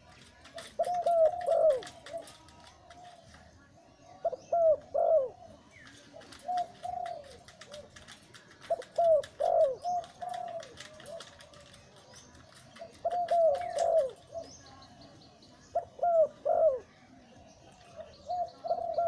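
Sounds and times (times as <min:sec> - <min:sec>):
dove cooing: 0:00.0 - 0:16.9, 0:17.7 - 0:19.0.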